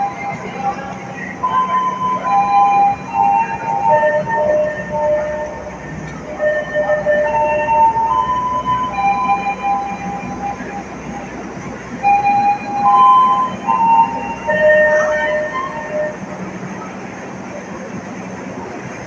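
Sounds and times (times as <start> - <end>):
electronic chime tune over speakers: 0.0 - 16.2
station platform noise: 0.0 - 19.0.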